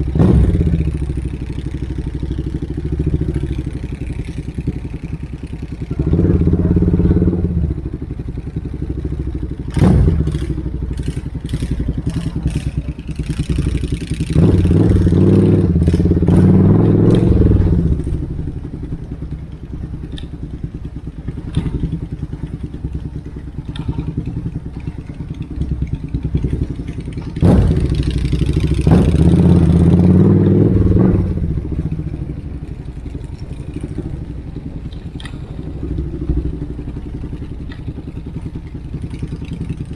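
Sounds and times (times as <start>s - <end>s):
exhaust cracks: 0.0s - 39.9s
loud motorcycle revving: 0.0s - 39.9s.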